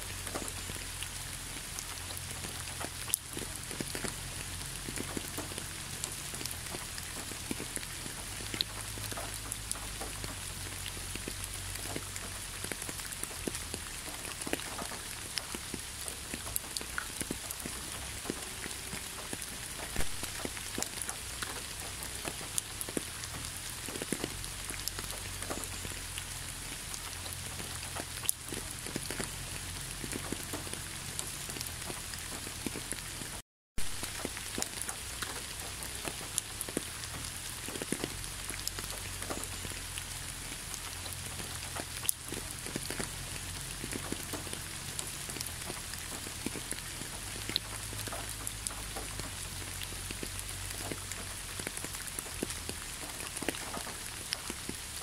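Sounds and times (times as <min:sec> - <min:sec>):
raindrops ticking: 0:00.0 - 0:55.0
steady rain: 0:00.0 - 0:55.0.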